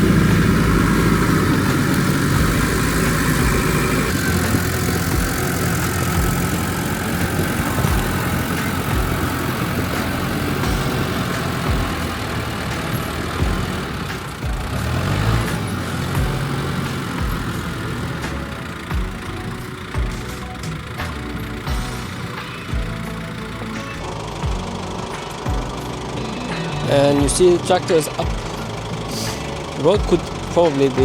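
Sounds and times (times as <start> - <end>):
tractor engine under load: 0.0 - 31.0.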